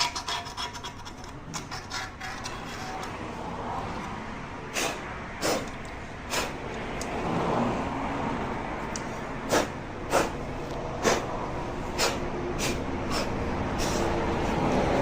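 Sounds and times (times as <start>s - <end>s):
workshop noise: 0.0s - 15.0s.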